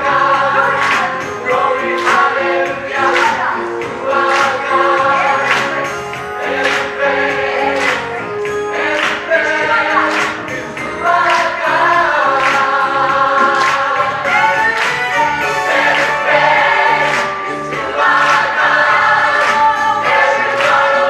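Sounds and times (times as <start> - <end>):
gospel choir singing: 0.0 - 21.0
hand claps: 0.7 - 21.0.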